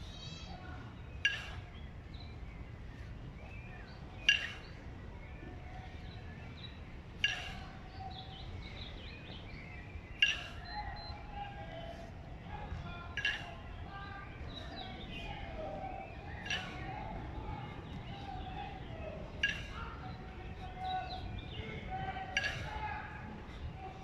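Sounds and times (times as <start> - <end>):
faint bird chirps: 0.0 - 24.0
kettlebells clanking: 1.2 - 2.4, 3.0 - 24.0.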